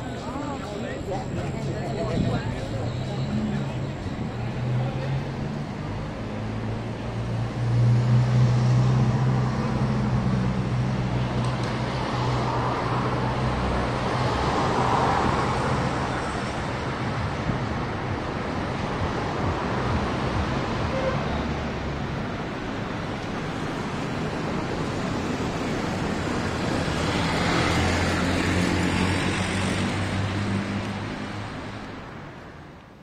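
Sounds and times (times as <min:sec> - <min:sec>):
rush of passing traffic: 0:00.0 - 0:33.0
vehicle engine humming: 0:00.0 - 0:33.0.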